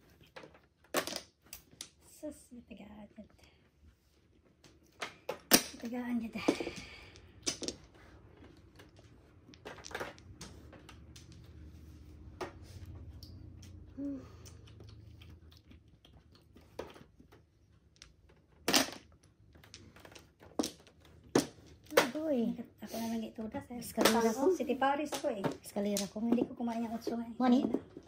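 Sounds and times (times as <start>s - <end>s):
mahjong tiles clacking: 4.6s - 22.6s, 23.4s - 28.0s.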